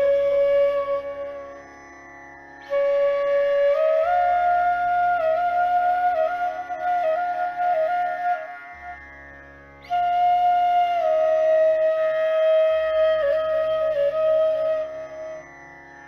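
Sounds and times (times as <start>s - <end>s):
meditative flute music: 0.0s - 16.0s.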